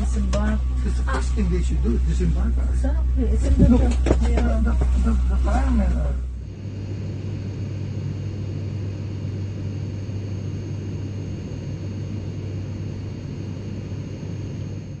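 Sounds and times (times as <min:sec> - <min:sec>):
airliner cabin hum and rumble: 0:00.0 - 0:15.0
faint high-pitched whines: 0:00.0 - 0:15.0.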